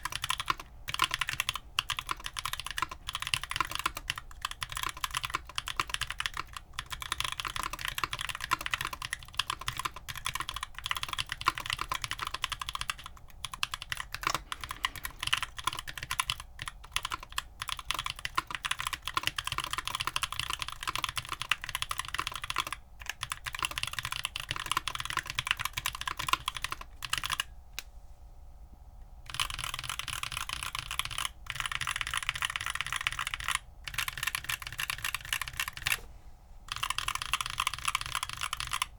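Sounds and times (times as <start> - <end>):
mechanical keyboard typing: 0.0 - 27.5, 29.3 - 36.0, 36.7 - 38.9.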